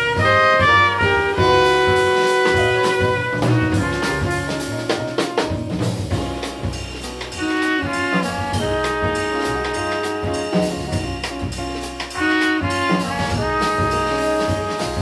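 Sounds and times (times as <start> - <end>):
alto saxophone: 0.0 - 5.7, 7.2 - 15.0
trumpet: 0.0 - 5.8, 7.3 - 15.0
double bass: 0.0 - 15.0
drum kit with cymbals: 0.0 - 15.0
piano: 0.0 - 15.0.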